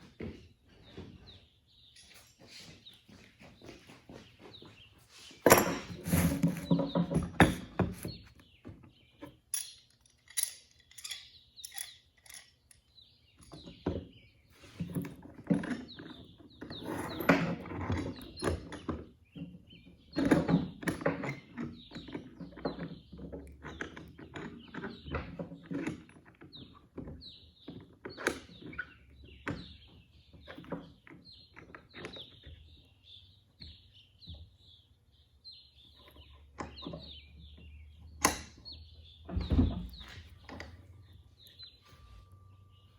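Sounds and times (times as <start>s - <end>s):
birds chirping faintly: 0.0s - 42.9s.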